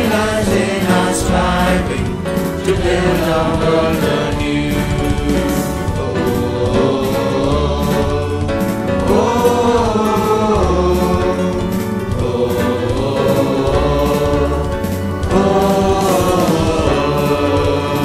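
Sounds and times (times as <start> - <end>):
boys singing a hymn: 0.0 - 18.0
instrumental backing with steady beat: 0.0 - 18.0.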